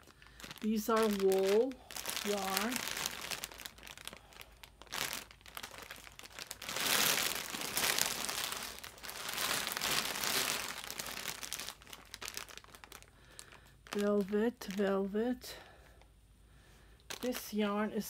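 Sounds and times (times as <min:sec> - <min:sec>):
plastic bag crinkling: 0:00.0 - 0:15.1, 0:17.1 - 0:17.6.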